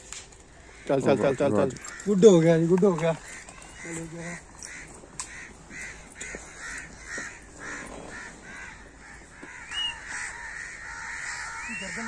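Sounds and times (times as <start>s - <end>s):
birds calling: 0.5s - 12.0s.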